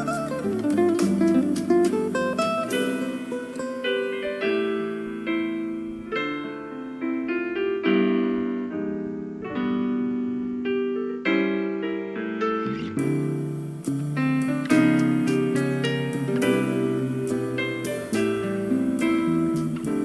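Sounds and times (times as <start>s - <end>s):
piano chords ringing out: 0.0s - 20.0s.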